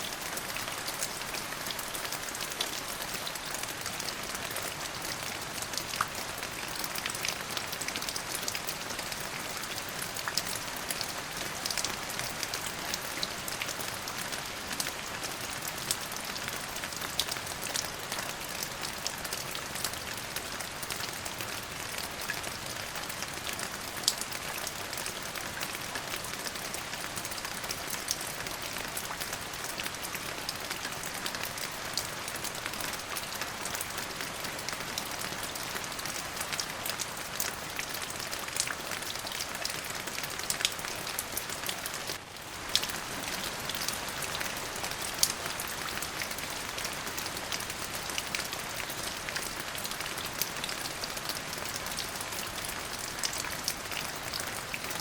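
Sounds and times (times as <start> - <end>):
raindrops ticking on a surface: 0.0 - 55.0
steady rain: 0.0 - 55.0.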